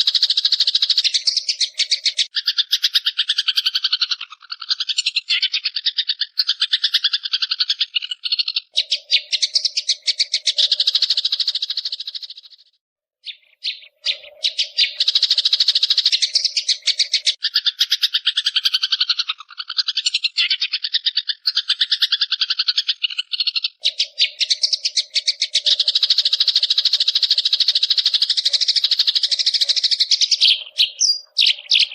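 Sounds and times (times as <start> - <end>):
shrike chattering: 0.0 - 12.5, 13.6 - 31.9.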